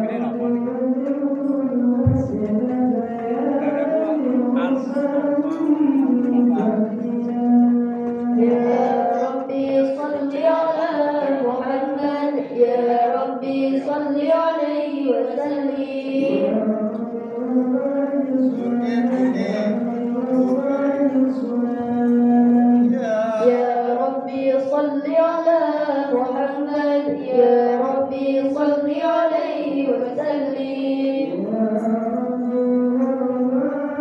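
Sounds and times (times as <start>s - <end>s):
group singing drawn-out melodies: 0.0s - 34.0s.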